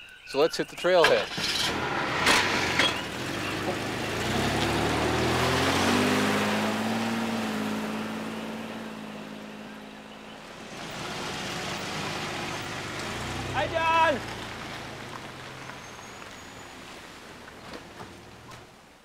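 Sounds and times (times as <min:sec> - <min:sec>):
car engine pulling away: 0:01.0 - 0:19.0.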